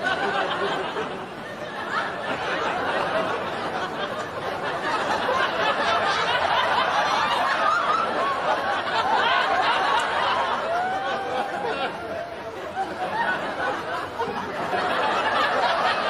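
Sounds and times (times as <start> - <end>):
many people laughing: 0.0 - 16.0
people chattering: 0.0 - 16.0.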